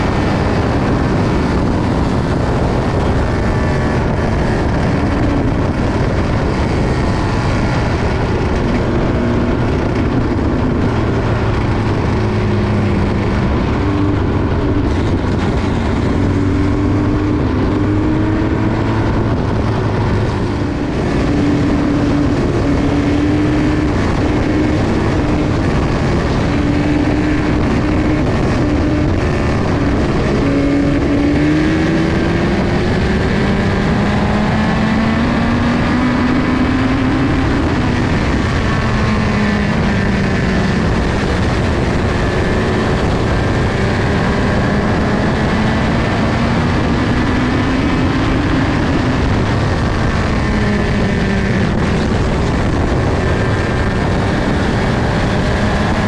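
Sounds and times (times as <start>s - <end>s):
race car engine at speed: 0.0s - 56.0s
wind rushing past: 0.0s - 56.0s.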